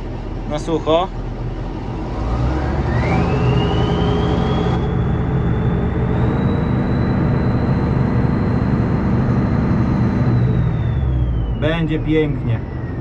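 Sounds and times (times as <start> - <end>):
diesel engine running: 0.0 - 13.0
high mechanical whine: 0.0 - 13.0.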